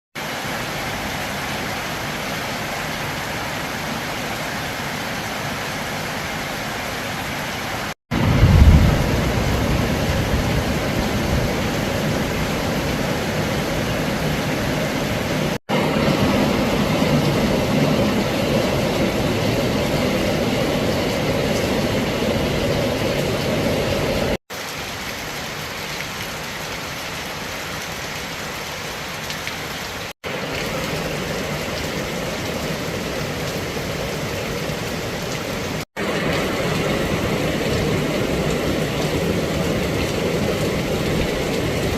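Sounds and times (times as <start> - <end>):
heavy rain falling: 0.2 - 41.9.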